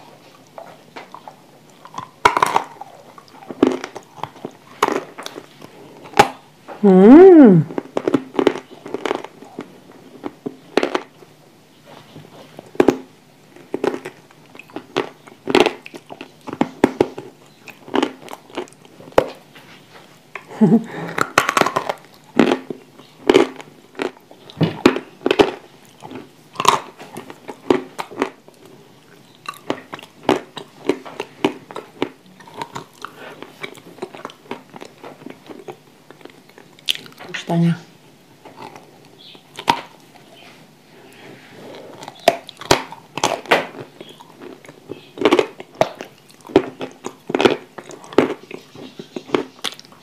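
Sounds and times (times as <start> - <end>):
crunching and chewing: 0.0 - 6.8, 7.6 - 37.5, 38.2 - 50.0.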